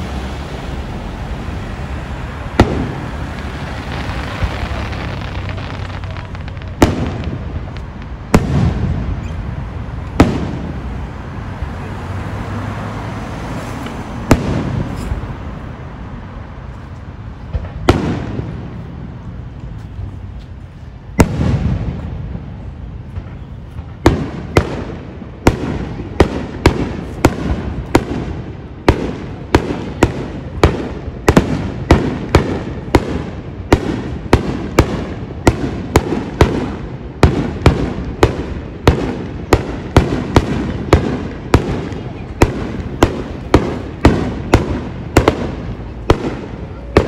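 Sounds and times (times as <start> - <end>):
firework bangs: 0.0 - 11.2, 13.5 - 15.7, 17.4 - 19.3, 21.1 - 47.0.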